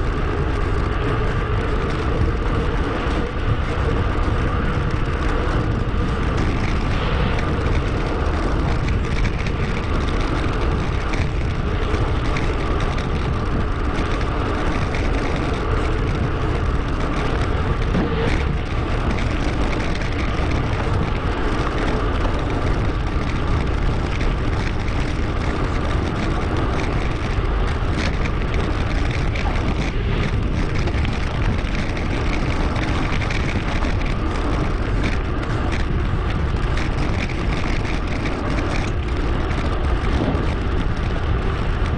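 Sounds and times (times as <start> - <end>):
bicycle riding noise: 0.0 - 41.9
wind rushing on microphone: 0.0 - 41.9.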